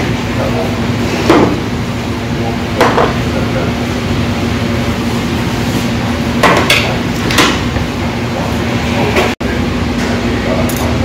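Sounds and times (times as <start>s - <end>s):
room noise with low hum: 0.0s - 11.0s.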